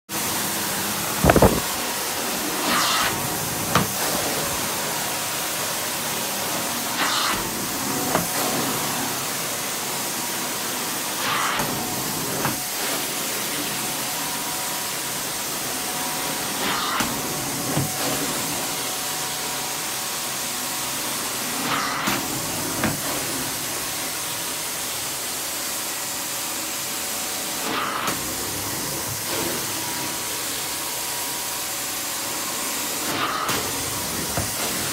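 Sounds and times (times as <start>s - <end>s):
carpet cleaner suction hiss: 0.2s - 34.9s.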